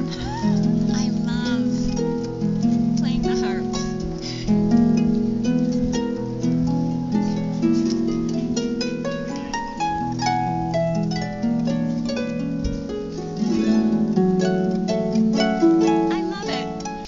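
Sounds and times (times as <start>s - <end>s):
harp notes plucked: 0.0s - 17.0s.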